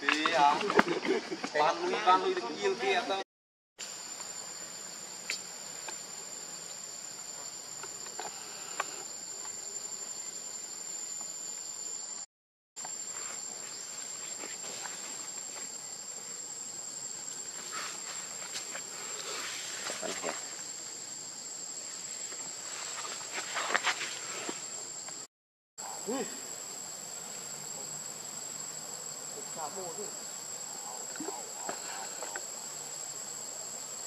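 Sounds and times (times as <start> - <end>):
insects droning high-pitched: 0.0 - 3.2, 3.8 - 34.0
faint forest ambience: 3.8 - 34.0.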